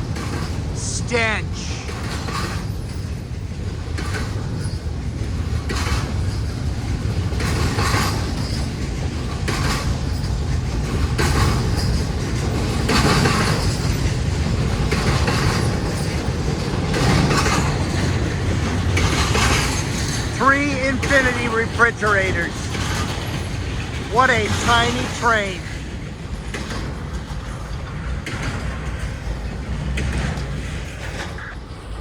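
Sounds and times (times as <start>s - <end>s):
train wheel clacks: 0.0s - 0.8s, 1.8s - 20.4s, 22.6s - 31.3s
freight train rumbling past: 0.0s - 32.0s.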